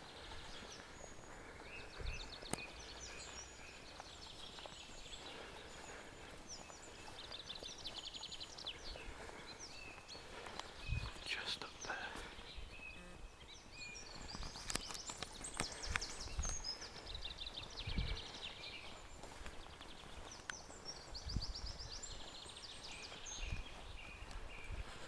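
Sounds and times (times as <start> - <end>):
small birds singing: 0.0 - 25.0.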